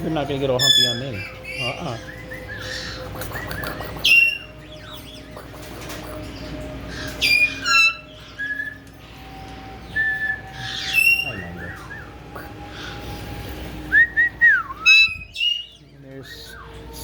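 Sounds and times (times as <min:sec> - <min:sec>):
steady low hum: 0:00.0 - 0:17.0
parrots whistling calls: 0:00.3 - 0:17.0.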